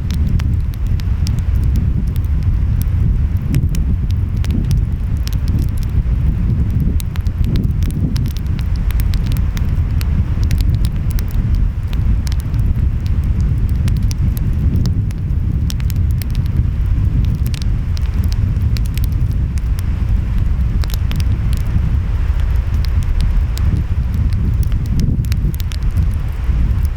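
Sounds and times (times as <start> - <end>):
wind: 0.0 - 26.9
wood fire crackling and popping: 0.0 - 26.9.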